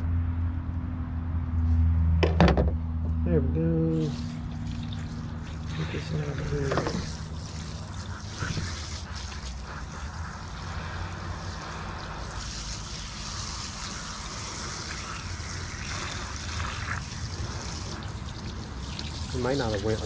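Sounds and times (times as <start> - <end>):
hose spraying water: 3.9 - 20.0.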